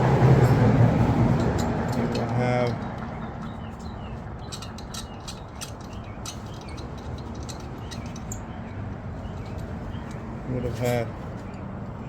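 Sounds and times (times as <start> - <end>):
metal engine parts clicking: 0.2 - 12.0.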